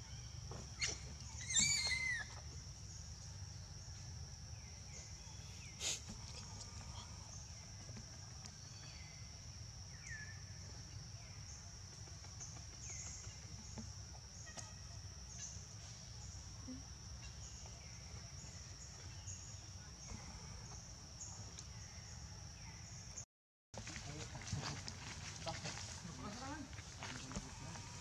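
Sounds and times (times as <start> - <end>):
high-pitched insect chorus: 0.0 - 23.0, 23.9 - 28.0.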